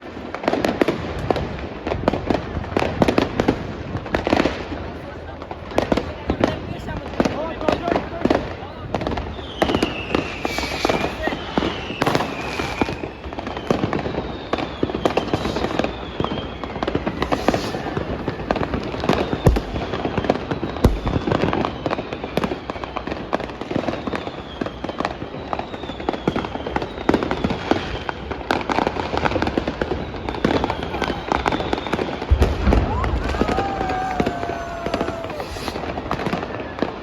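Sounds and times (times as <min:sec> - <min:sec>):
firecracker bangs and crackles: 0:00.0 - 0:37.0
whistling rockets: 0:06.0 - 0:37.0.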